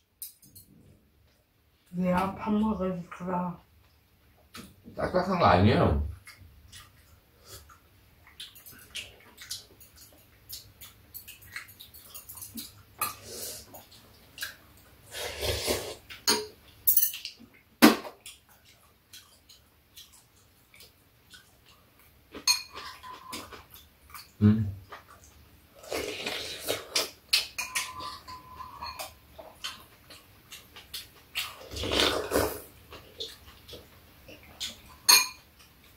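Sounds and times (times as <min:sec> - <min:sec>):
chewing and slurping: 0:06.2 - 0:17.6, 0:18.2 - 0:35.9.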